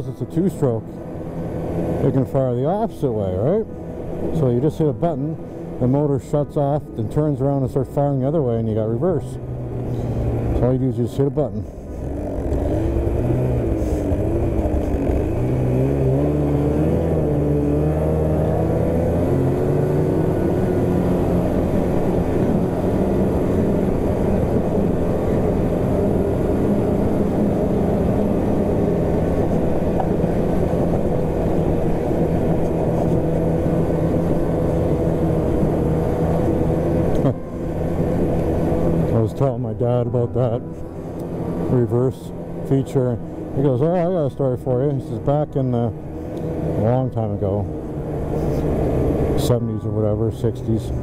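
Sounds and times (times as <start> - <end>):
snowmobile engine accelerating: 1.5 - 51.0.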